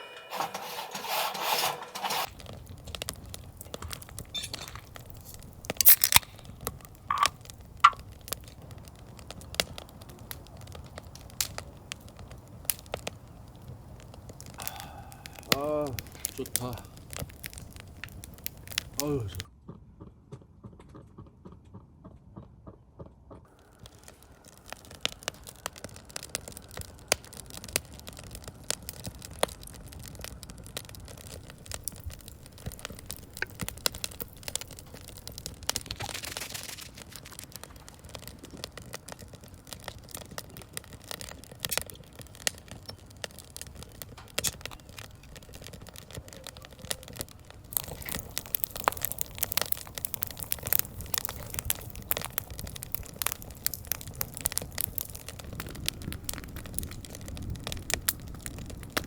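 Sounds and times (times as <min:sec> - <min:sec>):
firewood crackling and popping: 0:00.0 - 0:19.5, 0:23.5 - 0:59.0.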